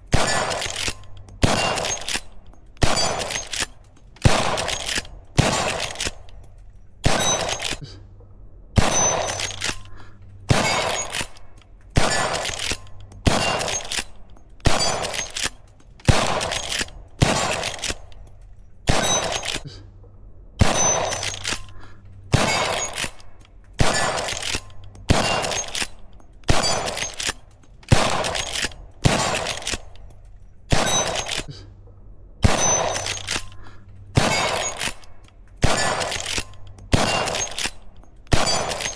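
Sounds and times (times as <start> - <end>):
rifle shots: 0.0 - 6.4, 7.0 - 7.9, 8.8 - 18.2, 18.9 - 19.7, 20.6 - 30.1, 30.7 - 31.5, 32.4 - 38.9.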